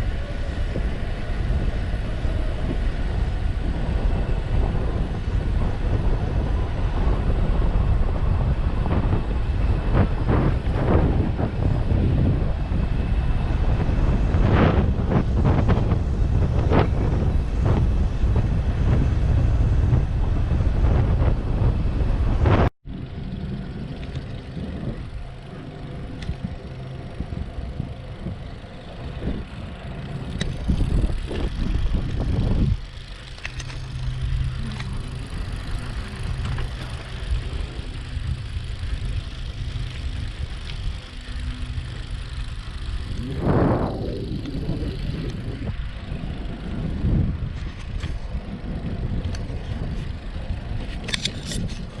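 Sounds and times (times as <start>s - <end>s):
passing vehicle noise: 0.0s - 52.0s
road noise: 0.0s - 52.0s
wind noise: 0.0s - 52.0s.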